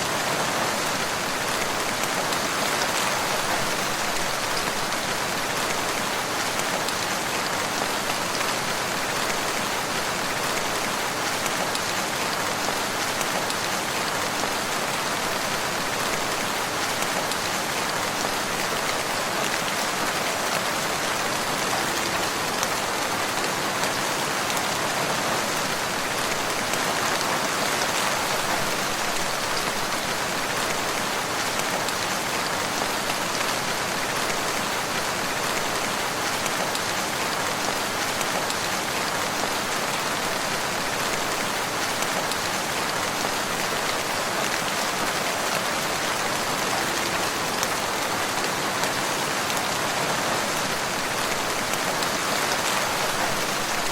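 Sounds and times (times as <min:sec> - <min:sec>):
rain falling on a surface: 0:00.0 - 0:53.9.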